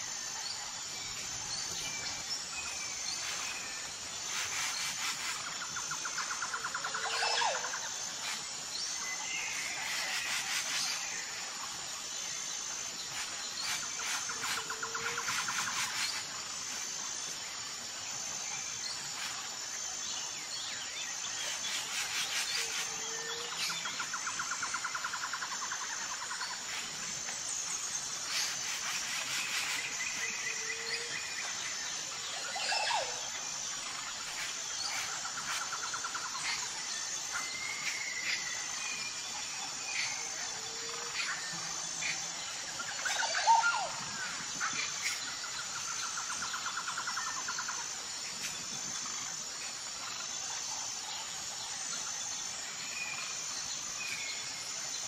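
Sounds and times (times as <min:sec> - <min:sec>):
high insect buzz: 0:00.0 - 0:55.0.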